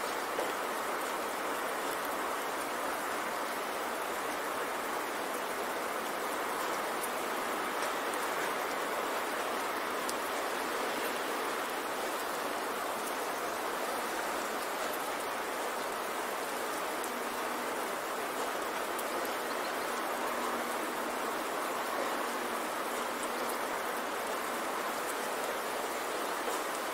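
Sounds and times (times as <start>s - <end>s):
rain drops ticking: 0.0s - 26.9s
steady rain hiss: 0.0s - 26.9s.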